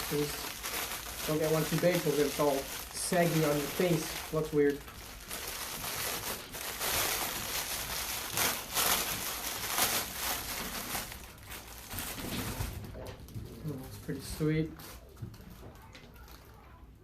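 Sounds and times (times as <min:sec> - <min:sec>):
rustling and crinkling handling: 0:00.0 - 0:17.0.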